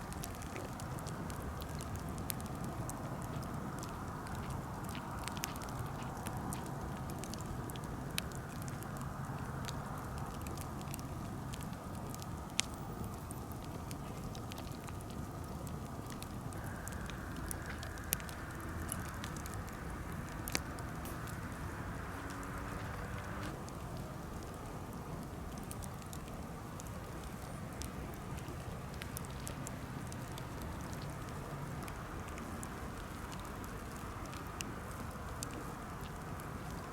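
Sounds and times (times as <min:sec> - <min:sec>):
campfire crackling: 0:00.0 - 0:36.9.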